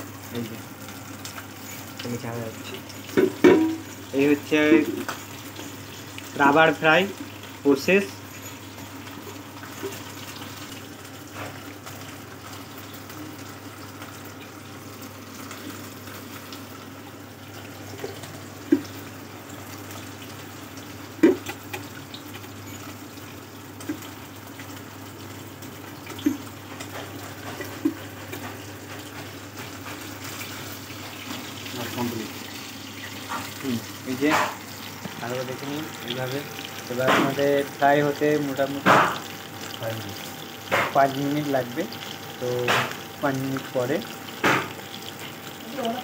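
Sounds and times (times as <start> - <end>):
fish sizzling in oil: 0.0 - 46.0.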